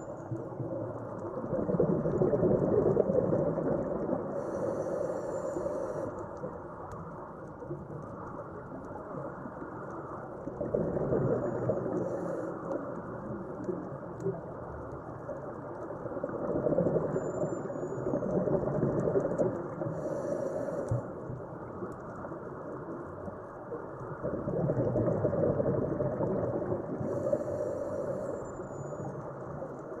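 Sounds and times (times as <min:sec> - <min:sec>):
underwater exhaled bubbles: 0:00.0 - 0:30.0.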